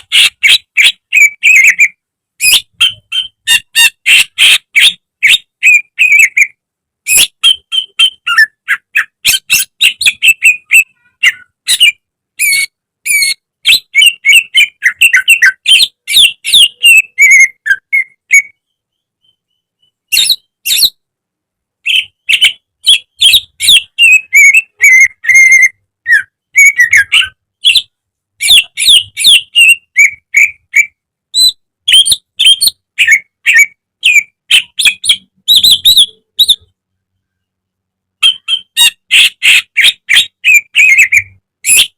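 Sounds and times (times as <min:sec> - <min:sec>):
bird singing chirps and trills: 0:00.0 - 0:21.0, 0:21.8 - 0:37.5, 0:38.2 - 0:41.9.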